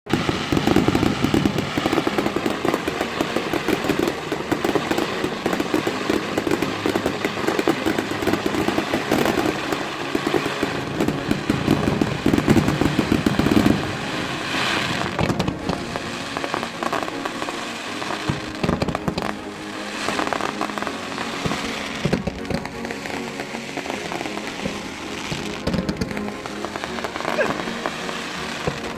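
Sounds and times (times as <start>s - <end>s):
fireworks crackling and popping: 0.0s - 28.9s.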